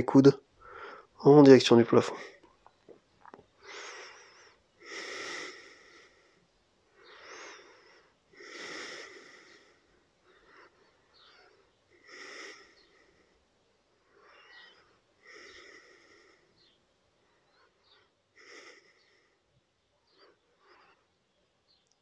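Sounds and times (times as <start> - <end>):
man breathing: 0.5 - 1.2, 3.6 - 21.3.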